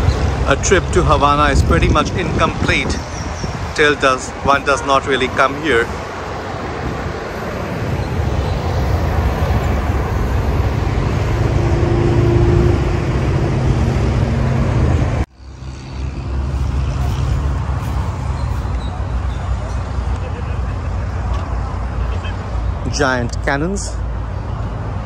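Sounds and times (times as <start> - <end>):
road traffic noise: 0.0 - 25.0
vehicle engine: 0.0 - 25.0.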